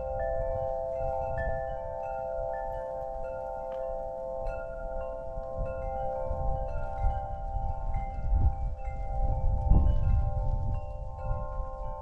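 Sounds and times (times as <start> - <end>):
metal wind chimes ringing: 0.0 - 12.0
wind rumble on microphone: 0.0 - 12.0.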